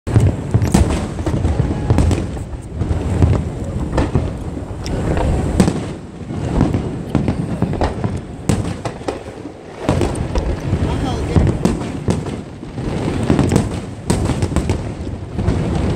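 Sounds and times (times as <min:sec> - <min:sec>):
fireworks bursting with sharp bangs: 0:00.1 - 0:15.9
low rumble of booms: 0:00.1 - 0:15.9.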